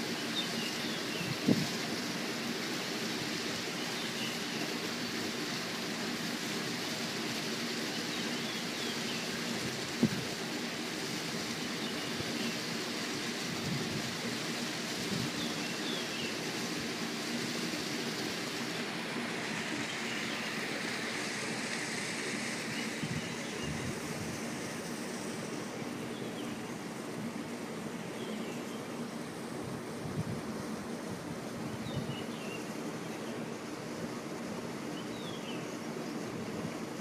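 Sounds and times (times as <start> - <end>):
waterfall rushing into pool: 0.0 - 37.0.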